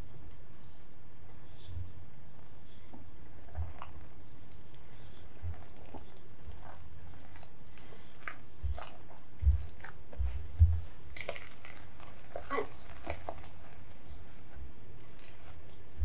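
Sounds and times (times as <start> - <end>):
whisk squelching in dough: 1.3 - 16.0.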